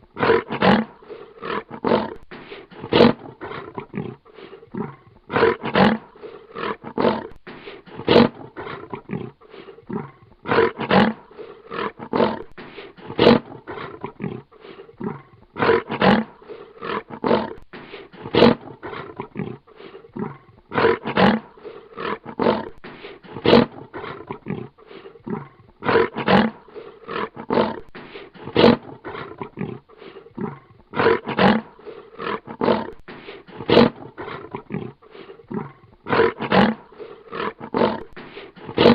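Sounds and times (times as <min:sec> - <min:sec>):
lion growling: 0:00.0 - 0:38.9.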